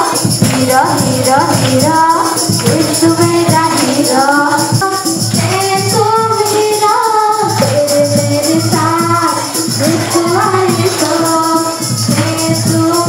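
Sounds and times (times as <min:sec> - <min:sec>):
music with steady beat: 0:00.0 - 0:13.0
person singing: 0:00.0 - 0:13.0.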